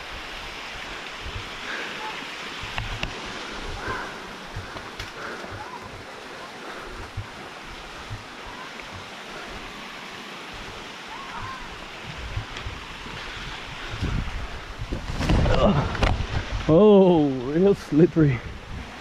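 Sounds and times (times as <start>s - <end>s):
wind thumping on microphone: 0.0s - 1.7s, 2.5s - 16.8s
waterfall rushing water: 0.0s - 19.0s.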